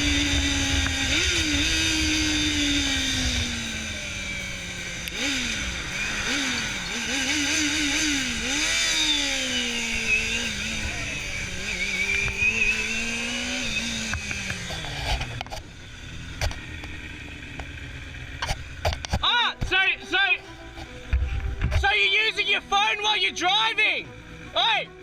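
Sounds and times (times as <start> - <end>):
motorcycle engine revving: 0.0 - 22.7.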